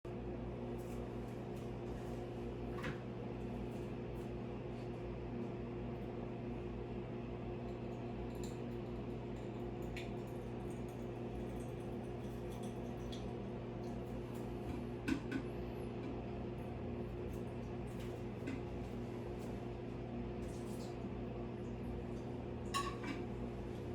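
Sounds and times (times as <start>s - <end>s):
low electrical hum: 0.1s - 23.9s.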